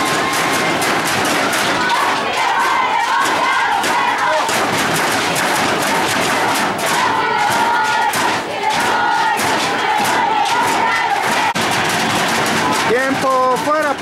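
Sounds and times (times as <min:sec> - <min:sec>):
crowd shouting: 0:00.0 - 0:14.0
noisemakers or drums banging: 0:00.0 - 0:14.0.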